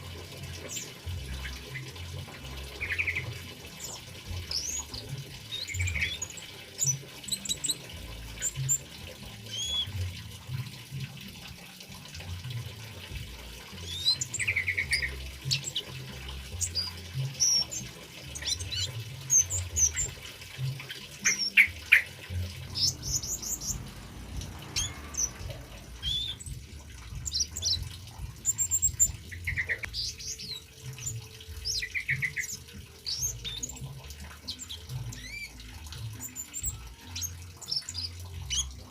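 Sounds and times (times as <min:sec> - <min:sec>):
trickling water: 0:00.0 - 0:38.9
bird singing chirps and whistles: 0:00.5 - 0:10.1, 0:13.7 - 0:23.9, 0:24.8 - 0:38.9.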